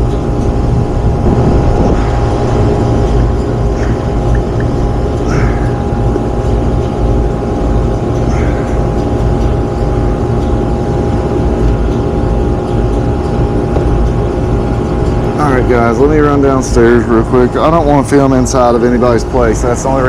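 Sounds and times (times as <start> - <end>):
hvac unit humming: 0.0 - 20.0.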